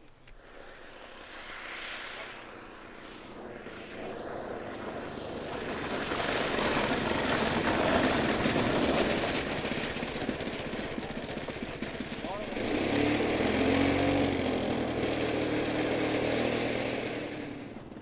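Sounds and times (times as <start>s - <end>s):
model plane engine and propeller: 0.0s - 18.0s.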